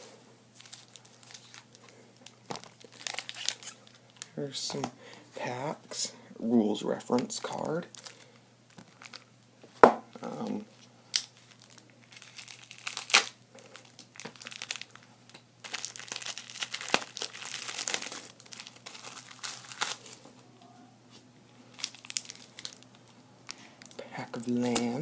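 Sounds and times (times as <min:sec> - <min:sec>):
foil wrappers crinkling: 0:00.5 - 0:05.2, 0:07.1 - 0:09.3, 0:10.2 - 0:20.4, 0:21.6 - 0:25.0.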